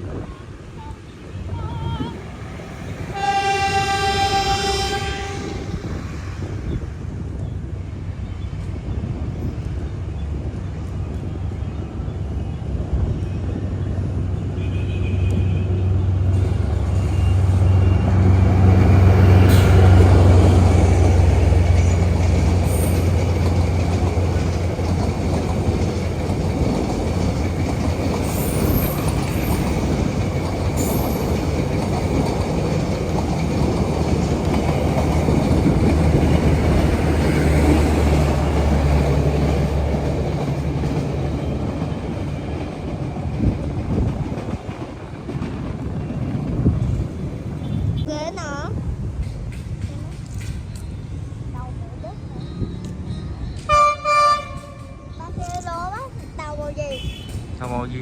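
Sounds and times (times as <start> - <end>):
locomotive engine drone: 0.0 - 48.0
rolling train cars rumble: 0.0 - 58.0.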